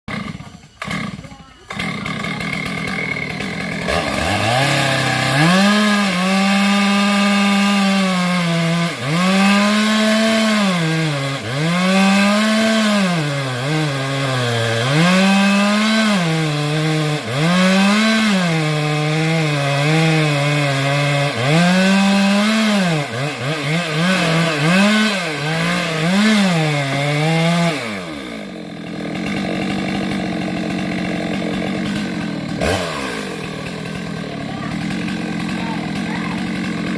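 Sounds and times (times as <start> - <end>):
chainsaw cutting wood: 0.1 - 36.9.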